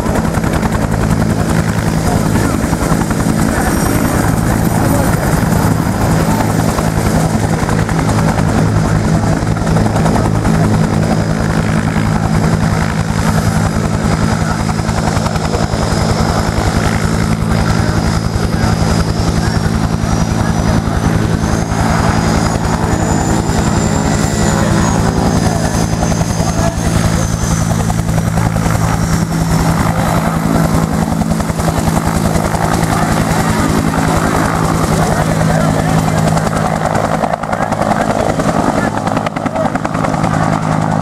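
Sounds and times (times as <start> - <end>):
helicopter rotor beating: 0.0 - 41.0
high turbine whine: 0.0 - 41.0.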